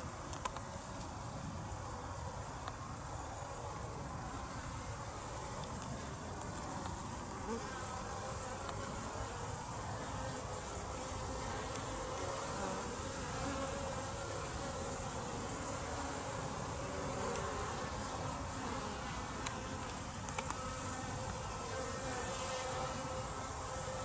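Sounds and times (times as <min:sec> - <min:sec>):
bees buzzing: 0:03.1 - 0:24.0.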